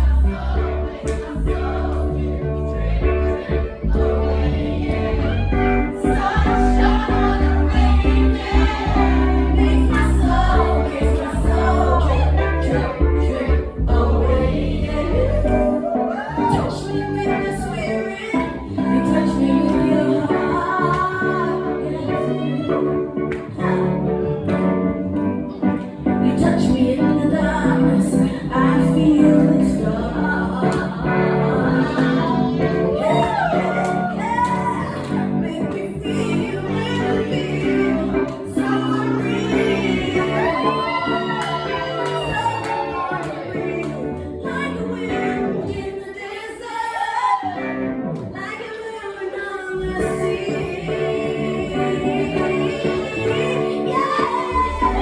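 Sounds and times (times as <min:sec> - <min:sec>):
people singing: 0:00.0 - 0:24.9, 0:25.6 - 0:55.0
instrumental backing: 0:00.0 - 0:46.2.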